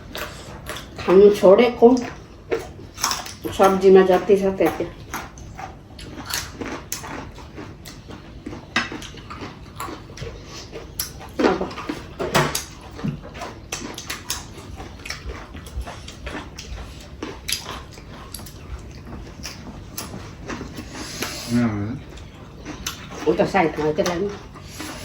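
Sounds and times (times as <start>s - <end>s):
wet chewing and mouth smacks: 0.0s - 1.2s, 1.8s - 25.0s.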